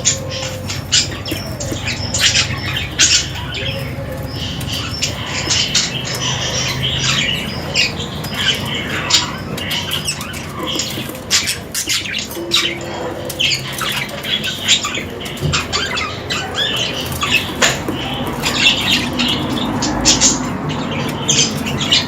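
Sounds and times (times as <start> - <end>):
budgerigars chattering and squawking: 0.0 - 22.0.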